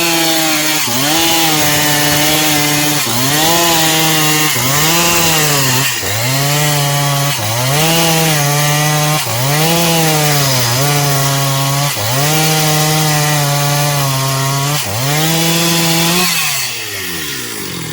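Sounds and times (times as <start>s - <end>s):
chainsaw cutting wood: 0.0s - 17.9s.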